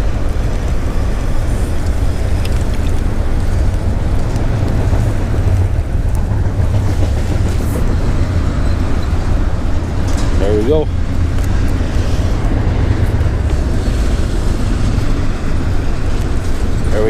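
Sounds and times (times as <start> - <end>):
train passing rumble: 0.0 - 17.0.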